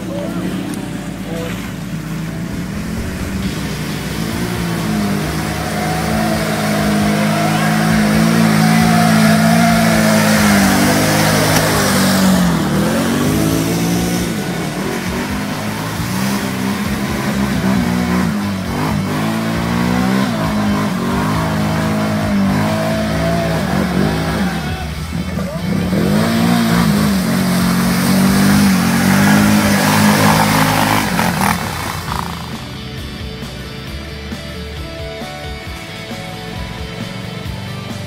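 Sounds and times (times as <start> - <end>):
water splashing from wheels: 0.0 - 32.9
quad bike engines revving: 0.0 - 38.0.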